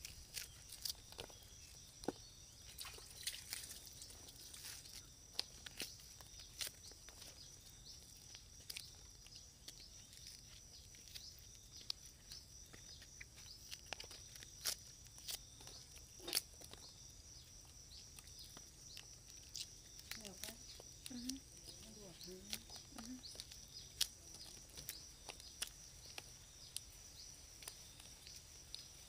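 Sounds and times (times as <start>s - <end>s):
skin crackling as peeled: 0.0s - 29.0s.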